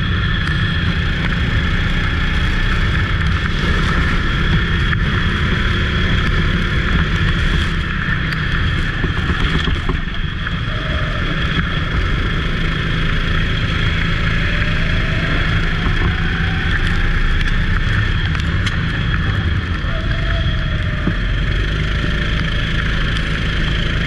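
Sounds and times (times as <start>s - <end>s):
go-kart engine running: 0.0s - 24.0s
rushing noise: 0.0s - 24.0s.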